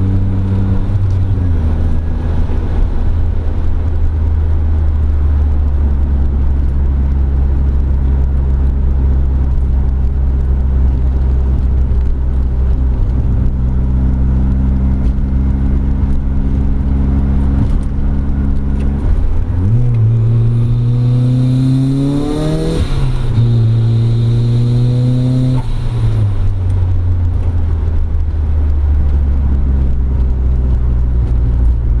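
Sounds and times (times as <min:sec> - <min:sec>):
car engine and exhaust: 0:00.0 - 0:32.0.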